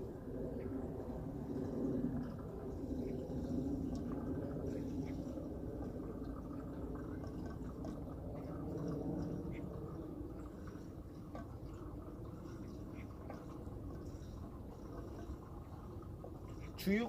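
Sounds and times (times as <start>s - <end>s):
faint drips: 0.0s - 17.0s
liquid trickling into tank: 0.0s - 17.0s.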